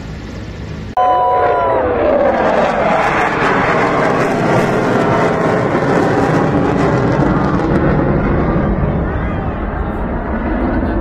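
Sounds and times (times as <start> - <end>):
jet flying overhead: 0.0 - 11.0.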